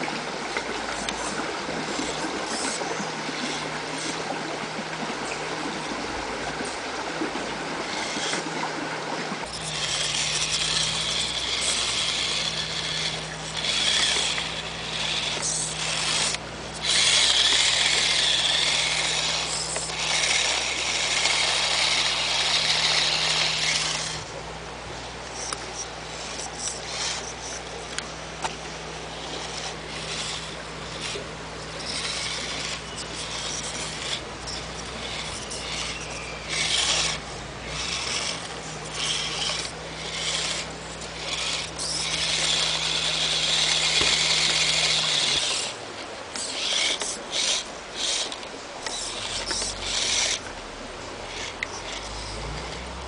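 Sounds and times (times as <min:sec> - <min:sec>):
toy truck motor and gears whirring: 0:00.0 - 0:53.0.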